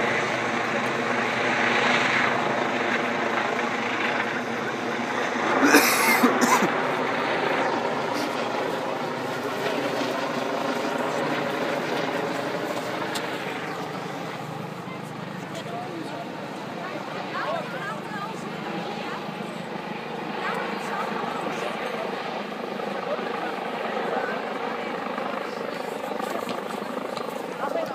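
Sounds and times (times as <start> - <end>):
helicopter flying overhead: 0.0 - 27.9.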